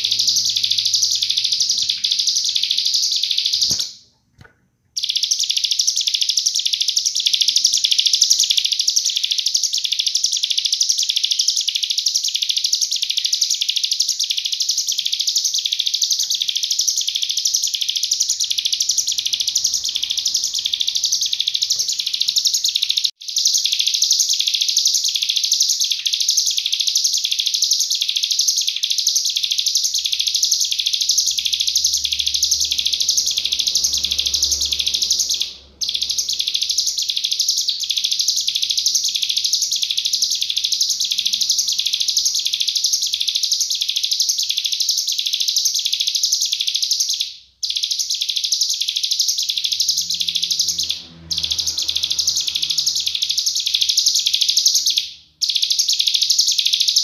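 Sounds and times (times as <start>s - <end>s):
bird singing rapid high notes: 0.0s - 4.0s, 5.0s - 57.0s.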